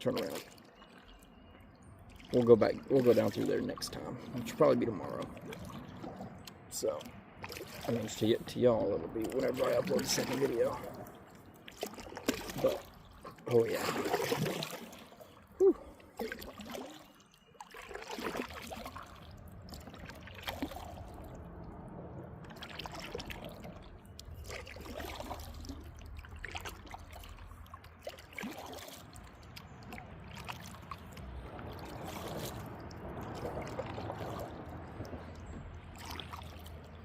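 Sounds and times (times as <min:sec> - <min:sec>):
kayak paddle dipping into water: 0:00.0 - 0:21.7, 0:22.4 - 0:37.0
small splashes: 0:00.0 - 0:37.0
water trickling and dripping: 0:00.0 - 0:37.0.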